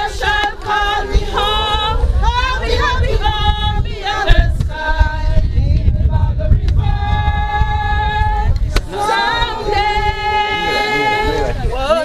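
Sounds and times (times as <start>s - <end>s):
steady low rumble: 0.0s - 11.9s
group singing a hymn: 0.0s - 12.0s.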